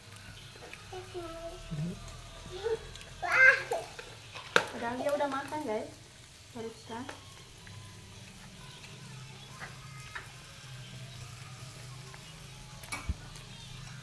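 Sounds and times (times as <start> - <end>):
meat sizzling on a grill pan: 0.0 - 14.0.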